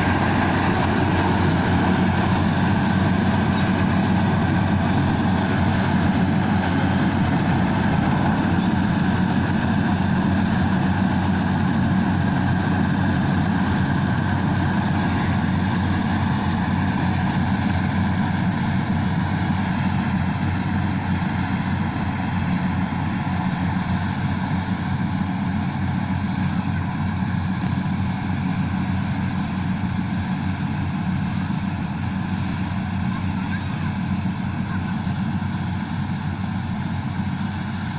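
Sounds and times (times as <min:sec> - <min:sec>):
combine harvester engine drone: 0:00.0 - 0:37.9.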